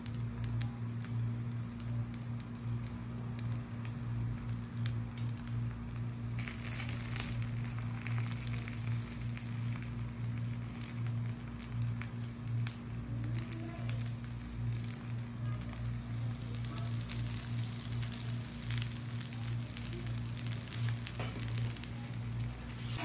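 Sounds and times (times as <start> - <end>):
batter sizzling on griddle: 0.0 - 23.0
low steady hum: 0.0 - 23.0.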